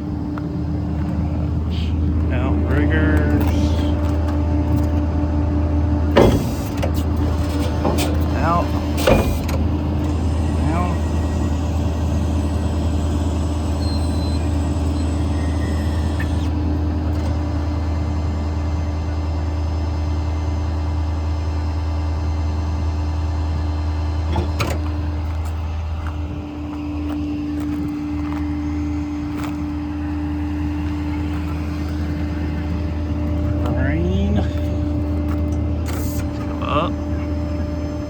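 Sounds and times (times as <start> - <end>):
diesel engine humming: 0.0 - 38.0
steady whine: 0.0 - 38.0.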